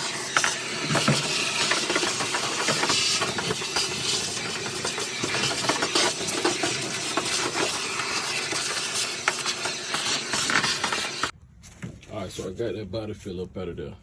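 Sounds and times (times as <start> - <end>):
angle grinder grinding metal: 0.0 - 11.3.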